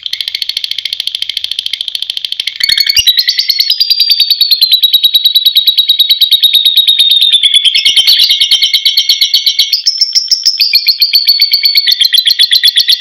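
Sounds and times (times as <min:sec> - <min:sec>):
lovebird chattering trill: 0:00.0 - 0:13.0.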